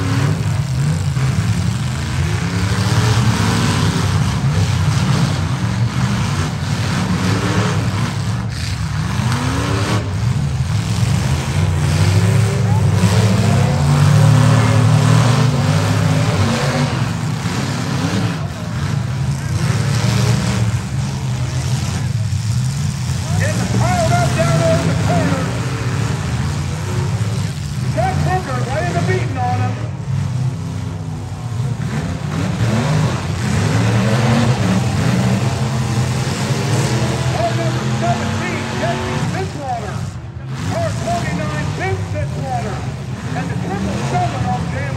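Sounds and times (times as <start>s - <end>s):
car engines revving hard: 0.0s - 44.9s.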